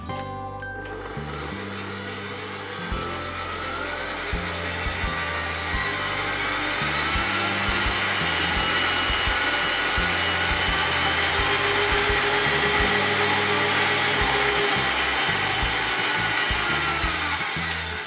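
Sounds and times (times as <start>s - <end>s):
stand mixer beating eggs: 0.8s - 18.0s.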